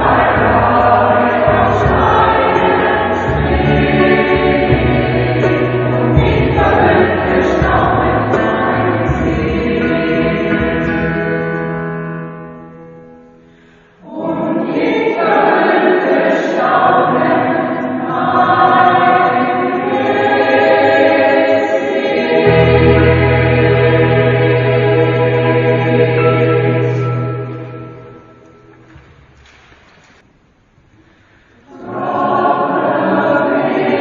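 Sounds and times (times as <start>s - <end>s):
mixed choir singing in harmony: 0.0s - 12.2s, 14.0s - 28.7s, 31.6s - 34.0s.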